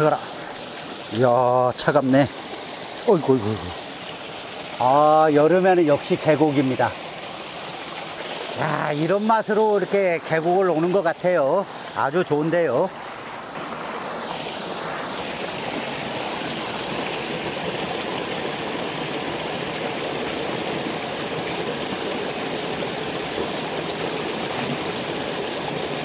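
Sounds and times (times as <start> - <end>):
stream water rushing over rocks: 0.0 - 26.0.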